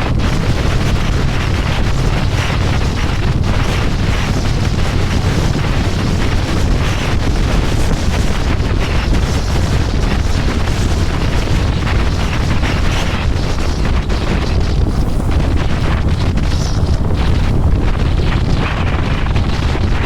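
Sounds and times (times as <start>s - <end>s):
motorcycle engine rumble: 0.0s - 20.0s
wind buffeting microphone: 0.0s - 20.0s.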